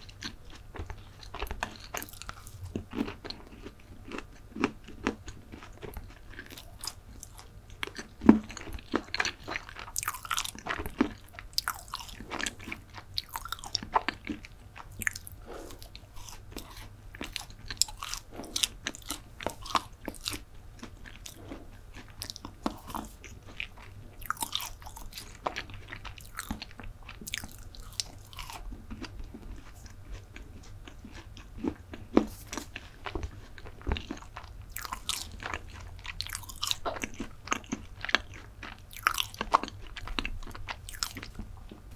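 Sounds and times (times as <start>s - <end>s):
chewing with wet mouth clicks: 0.0s - 41.9s.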